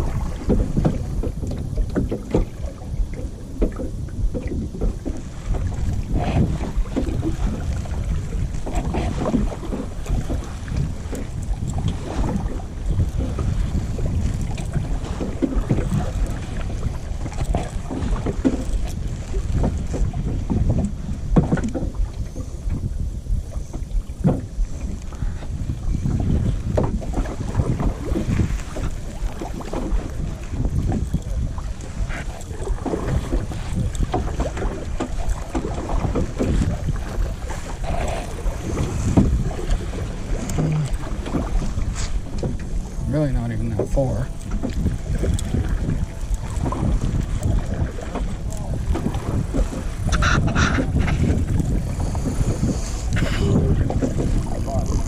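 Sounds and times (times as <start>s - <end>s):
paddle strokes splashing in water: 0.0s - 55.0s
wind buffeting microphone: 0.0s - 55.0s.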